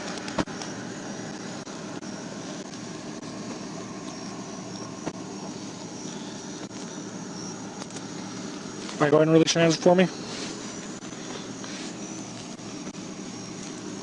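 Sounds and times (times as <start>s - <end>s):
engine and traffic drone: 0.0s - 14.0s.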